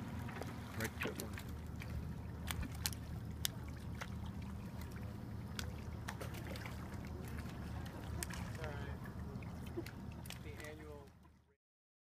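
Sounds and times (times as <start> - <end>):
boat engine humming: 0.0 - 11.6
water lapping: 0.0 - 11.6
small sharp splashes: 0.3 - 11.4.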